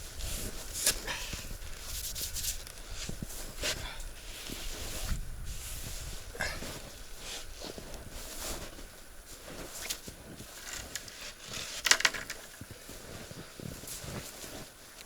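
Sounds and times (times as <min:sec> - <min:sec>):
boots crunching in snow: 0:00.0 - 0:15.0.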